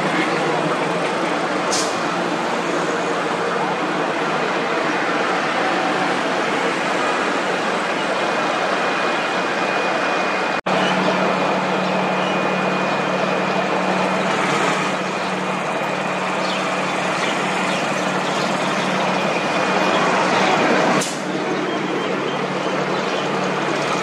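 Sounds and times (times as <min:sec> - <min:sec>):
highway traffic: 0:00.0 - 0:24.0
low engine hum close by: 0:00.0 - 0:24.0.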